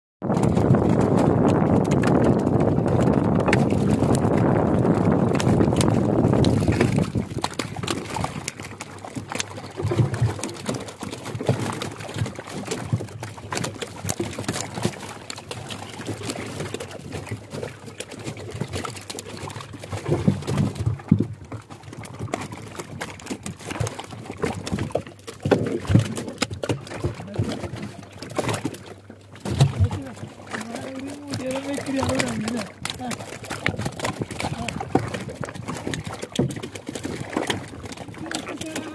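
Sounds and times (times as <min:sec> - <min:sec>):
wet fish flopping and slapping: 0:00.2 - 0:38.9.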